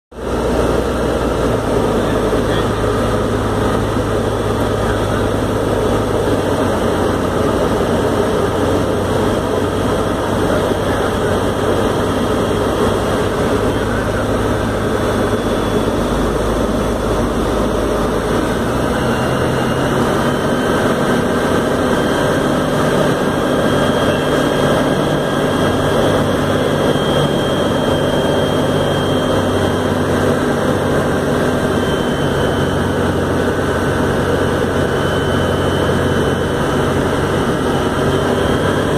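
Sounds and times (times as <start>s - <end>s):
light aircraft engine and propeller: 0.1s - 38.9s.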